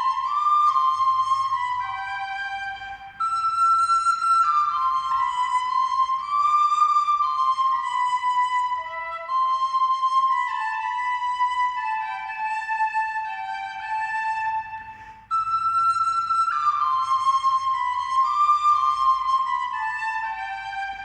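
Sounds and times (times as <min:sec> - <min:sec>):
slow flute-like melody: 0:00.0 - 0:21.0.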